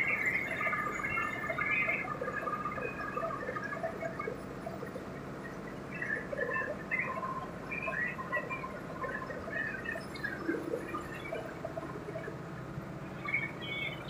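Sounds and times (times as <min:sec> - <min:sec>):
conveyor squeaks and chirps: 0:00.0 - 0:12.4, 0:13.0 - 0:14.0.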